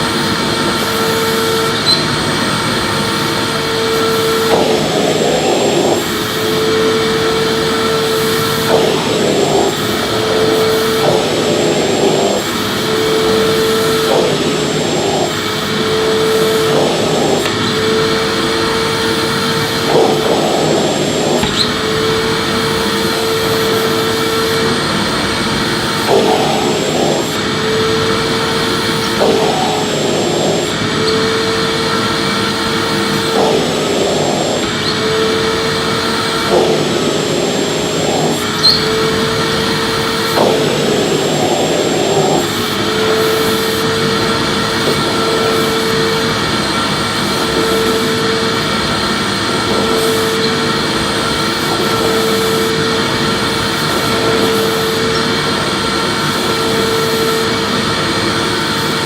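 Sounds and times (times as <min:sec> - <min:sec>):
vacuum cleaner whine: 0:00.0 - 0:59.0.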